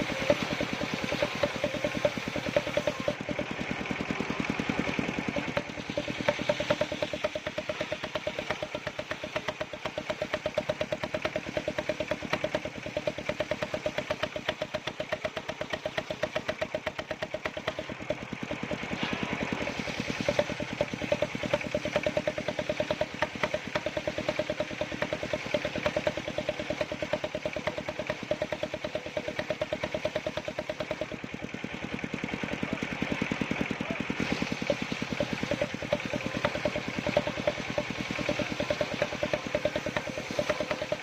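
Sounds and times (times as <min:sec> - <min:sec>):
wood-cutting machine engine chugging: 0:00.0 - 0:41.0.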